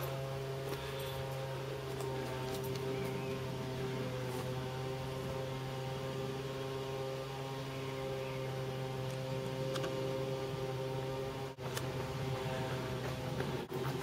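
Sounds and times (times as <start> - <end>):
steady low drone: 0.0 - 14.0.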